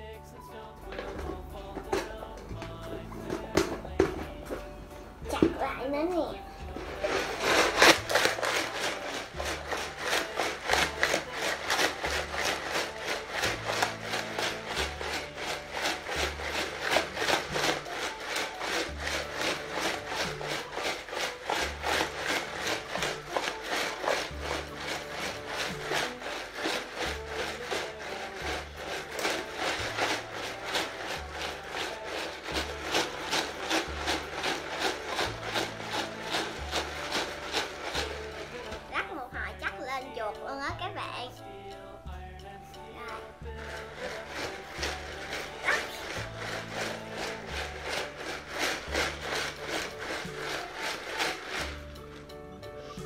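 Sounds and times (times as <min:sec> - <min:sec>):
ice rattling in shaken plastic jar: 0:00.0 - 0:41.3, 0:42.8 - 0:53.0.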